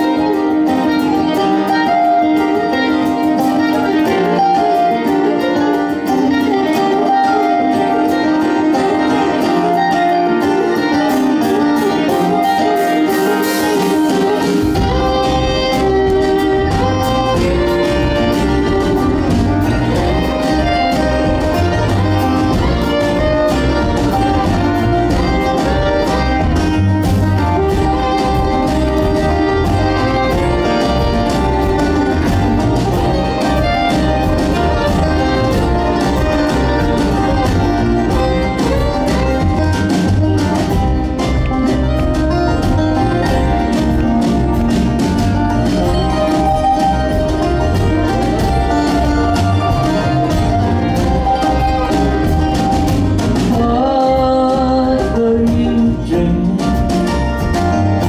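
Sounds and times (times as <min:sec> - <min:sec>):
acoustic string band playing bluegrass: 0:00.0 - 0:58.0.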